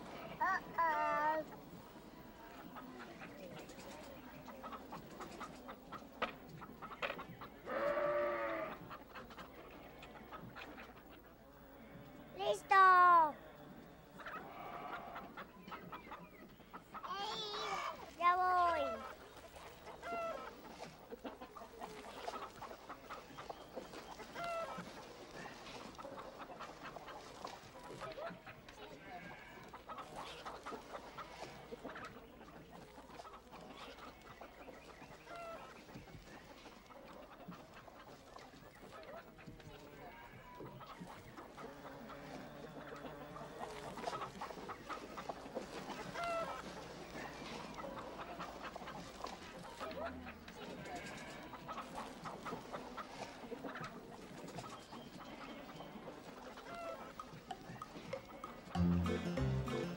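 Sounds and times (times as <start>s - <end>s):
hens clucking: 0.0s - 59.9s
drawn-out hen call: 6.9s - 16.0s, 16.7s - 59.9s.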